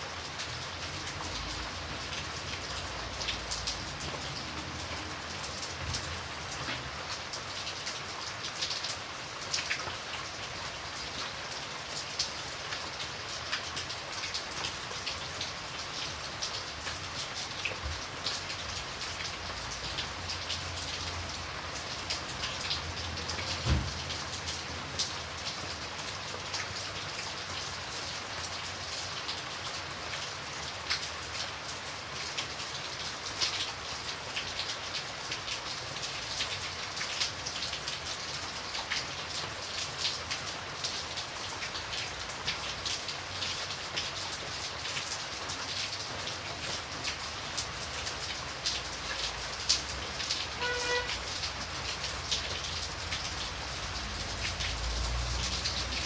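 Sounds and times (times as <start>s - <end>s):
rain falling: 0.0s - 56.0s
raindrops ticking on hard surface: 0.1s - 56.0s.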